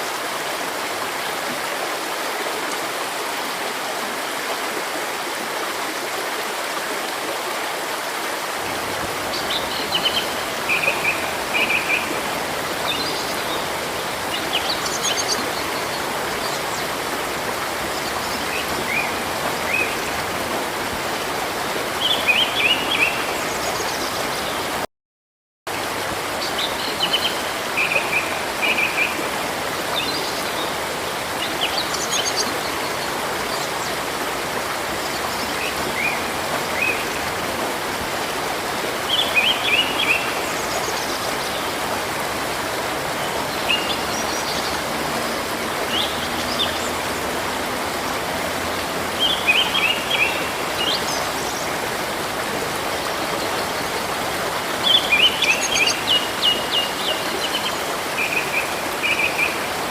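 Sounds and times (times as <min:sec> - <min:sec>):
river rushing: 0:00.0 - 0:24.8, 0:25.7 - 0:59.9.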